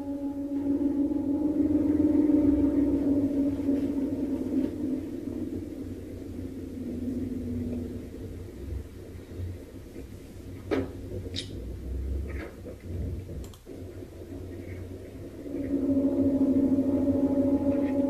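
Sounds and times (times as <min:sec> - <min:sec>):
low droning groan: 0:00.0 - 0:18.0
low rumble: 0:00.0 - 0:18.0.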